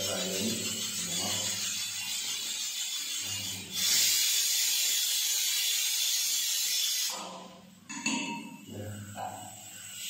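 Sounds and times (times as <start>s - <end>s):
steam hissing: 0.0s - 7.5s, 8.6s - 10.0s.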